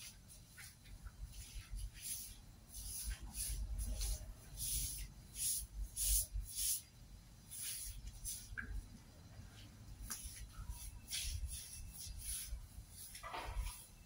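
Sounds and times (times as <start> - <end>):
broom swishing water on tiled floor: 0.0 - 8.8, 10.0 - 14.0.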